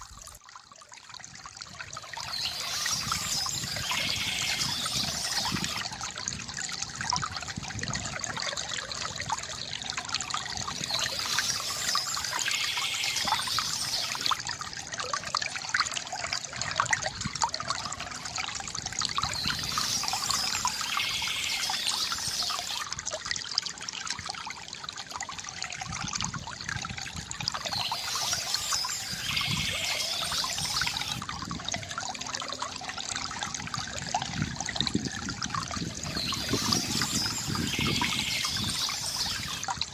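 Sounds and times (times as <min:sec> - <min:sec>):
small water splashes: 0:00.0 - 0:39.9
water trickling from fountain: 0:00.0 - 0:39.9.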